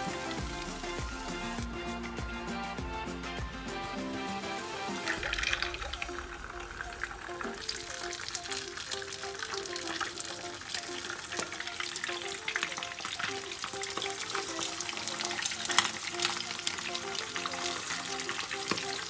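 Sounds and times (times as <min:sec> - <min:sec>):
fish sizzling in hot oil: 0:00.0 - 0:01.7, 0:04.4 - 0:19.0.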